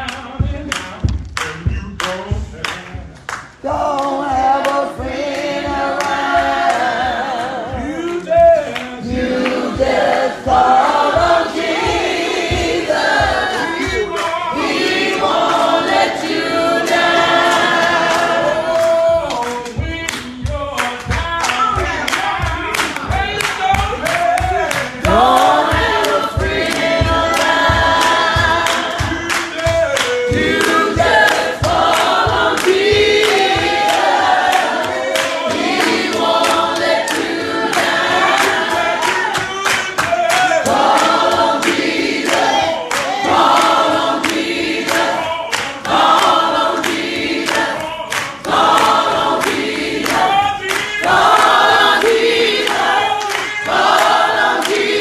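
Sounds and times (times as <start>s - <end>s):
group singing gospel song: 0.0s - 55.0s
hand-clapping: 0.0s - 55.0s.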